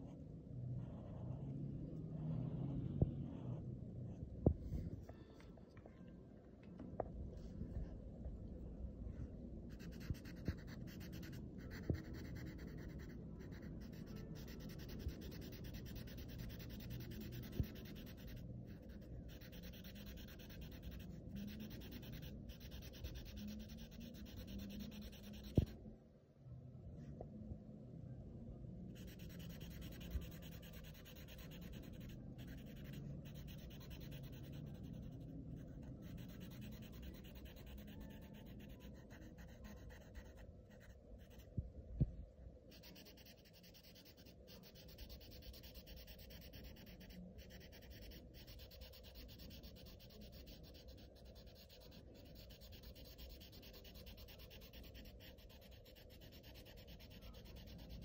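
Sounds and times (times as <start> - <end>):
marker scratching on paper: 0.8 - 3.7, 9.7 - 25.8, 28.9 - 41.5, 42.7 - 58.0.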